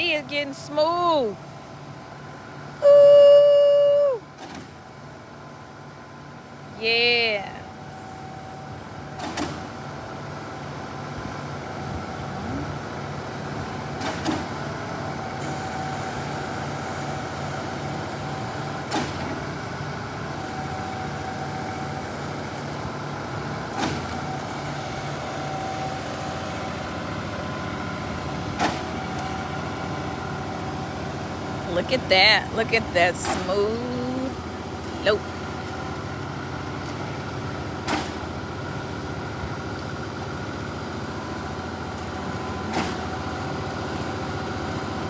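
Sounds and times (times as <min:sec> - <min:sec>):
heavy vehicle engine running: 0:00.0 - 0:02.8, 0:04.2 - 0:45.0.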